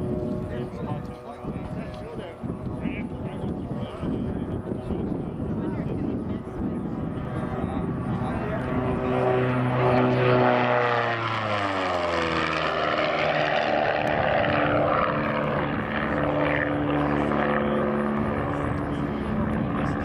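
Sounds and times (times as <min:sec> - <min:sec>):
propeller plane flying by: 0:00.0 - 0:20.0.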